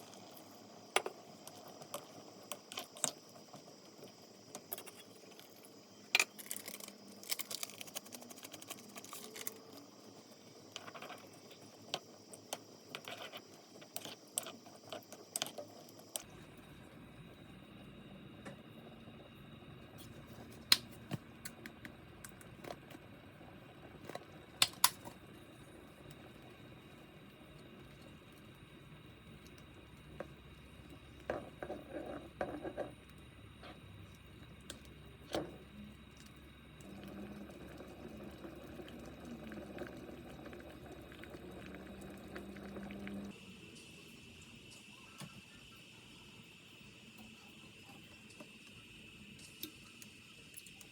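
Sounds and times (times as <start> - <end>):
faint steady hum: 0.0 - 50.9
liquid boiling in a pot: 0.0 - 50.9.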